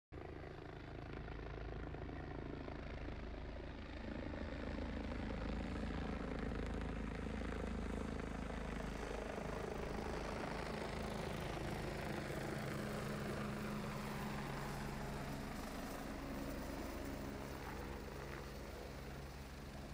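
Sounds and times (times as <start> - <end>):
helicopter rotor and turbine: 0.2 - 19.9.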